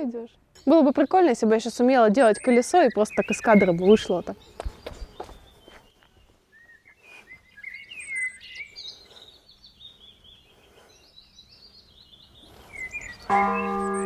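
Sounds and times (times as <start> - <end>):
faint outdoor background noise: 0.0 - 14.0
small birds chirping: 0.6 - 14.0.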